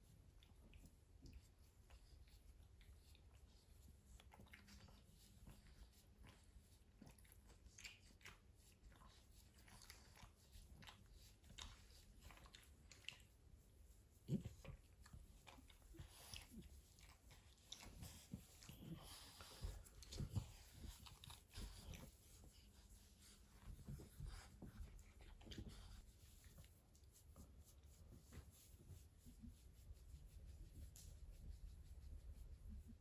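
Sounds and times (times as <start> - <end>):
hands rubbing dog fur: 0.0 - 33.0.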